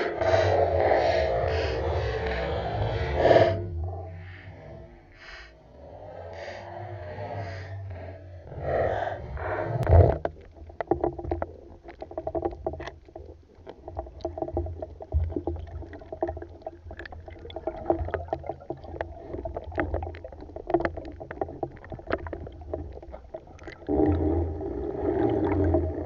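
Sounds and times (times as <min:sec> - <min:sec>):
muffled underwater rush: 0:00.0 - 0:26.0.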